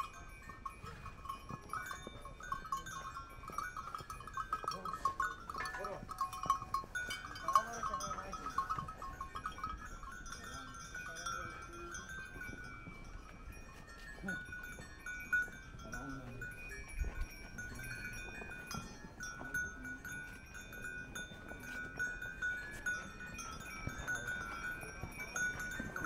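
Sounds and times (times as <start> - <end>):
small bells jingling: 0.0 - 26.0.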